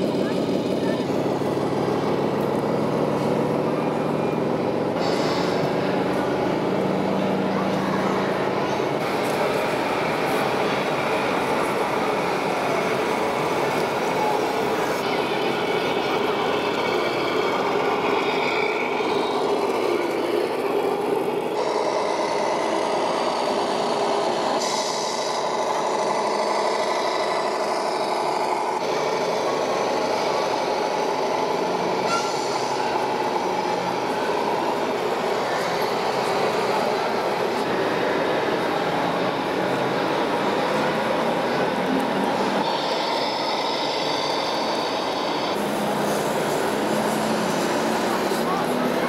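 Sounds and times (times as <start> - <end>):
hum of busy exhibition hall: 0.0 - 49.0
model trucks driving: 0.0 - 49.0.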